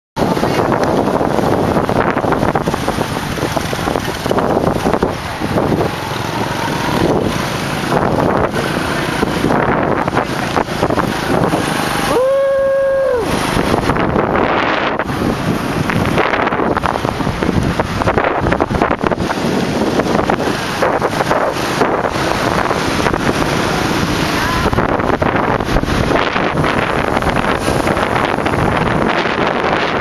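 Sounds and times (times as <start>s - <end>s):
motorcycle engine running: 0.2s - 30.0s
wind buffeting microphone: 0.2s - 30.0s.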